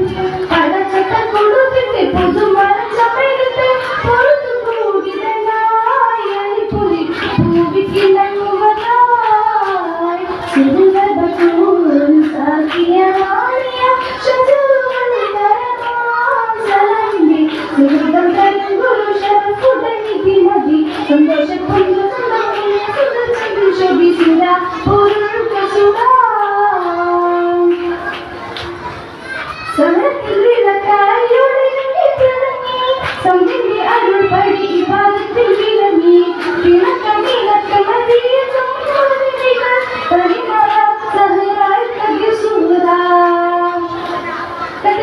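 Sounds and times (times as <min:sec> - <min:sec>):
girl singing into a microphone: 0:00.0 - 0:45.0.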